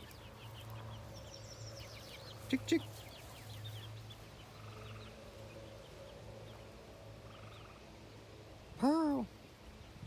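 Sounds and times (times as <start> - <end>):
chickens chirping: 0.0 - 10.0.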